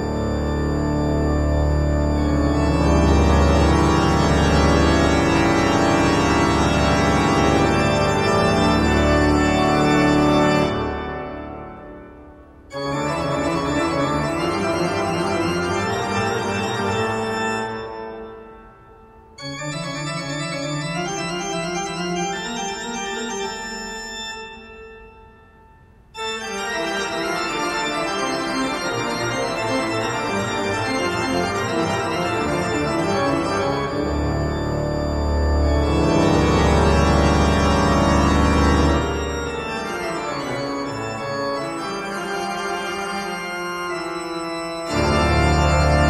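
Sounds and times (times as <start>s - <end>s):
sustained keyboard chords: 0.0s - 46.0s.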